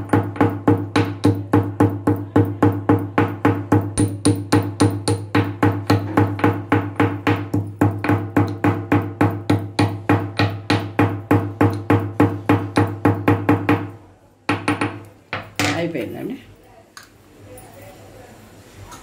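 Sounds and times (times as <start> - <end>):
pestle pounding in marble mortar: 0.0 - 15.7.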